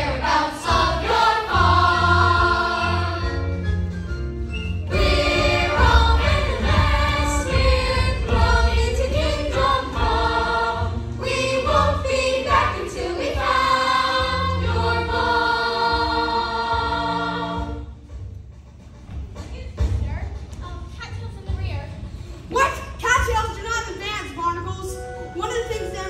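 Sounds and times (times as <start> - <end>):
musical accompaniment: 0.0 - 26.0.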